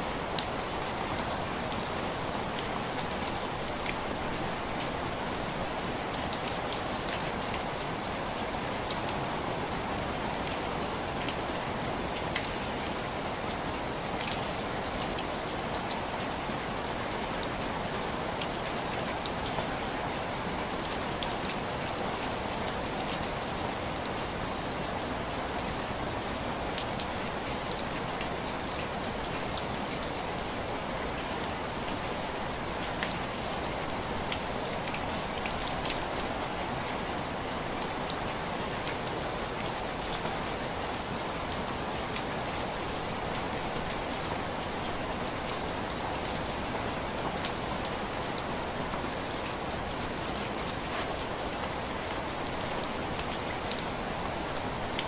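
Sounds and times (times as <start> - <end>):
rain on window glass: 0.1 - 55.0.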